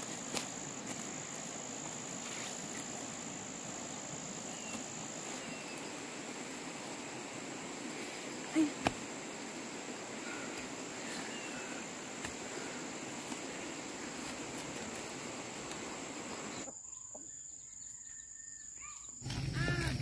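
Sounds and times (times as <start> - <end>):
field ambience: 0.0 - 16.6
high insect drone: 0.0 - 20.0.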